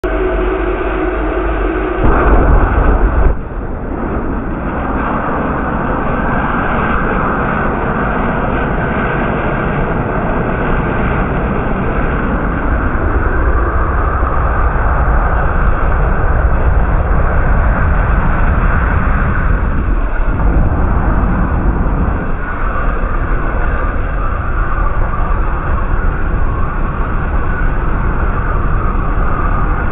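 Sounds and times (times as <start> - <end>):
loud continuous rushing hiss: 0.1 - 29.9.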